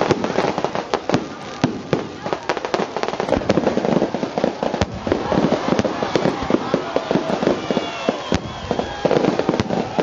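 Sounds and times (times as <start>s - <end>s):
firecrackers going off: 0.0s - 10.0s.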